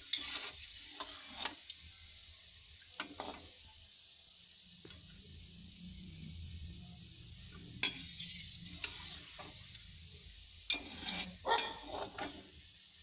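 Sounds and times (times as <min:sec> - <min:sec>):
dough balls deep-frying in oil: 0:00.0 - 0:13.0.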